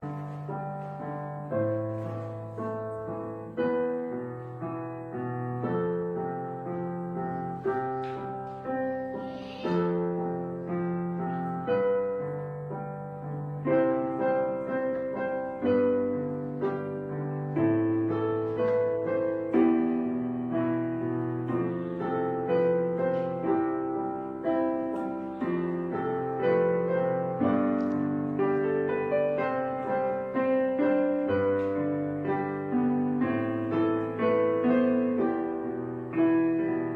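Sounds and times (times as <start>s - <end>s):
solo piano music: 0.0s - 36.9s.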